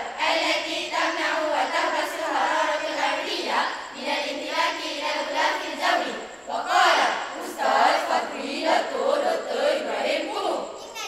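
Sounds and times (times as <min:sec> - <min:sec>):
girls reciting in unison: 0:00.0 - 0:11.0.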